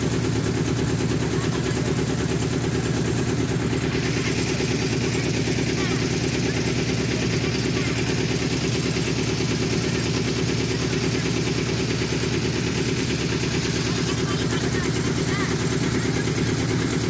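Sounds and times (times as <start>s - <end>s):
boat engine chugging: 0.0s - 17.0s.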